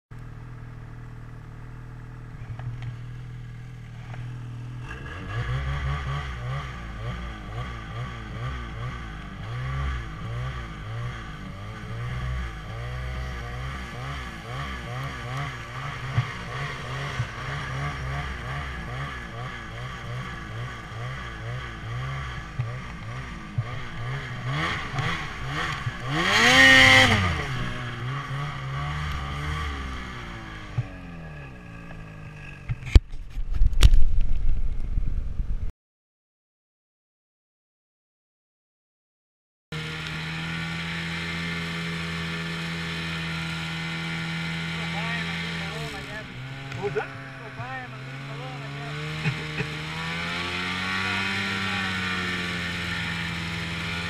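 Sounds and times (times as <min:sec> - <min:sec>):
snowmobile engine revving: 0:01.5 - 0:33.0, 0:39.8 - 0:54.0.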